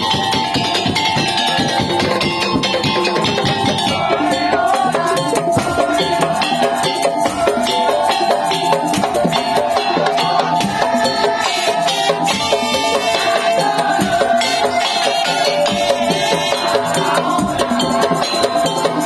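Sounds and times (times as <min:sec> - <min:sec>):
fast percussion ensemble: 0:00.0 - 0:19.0.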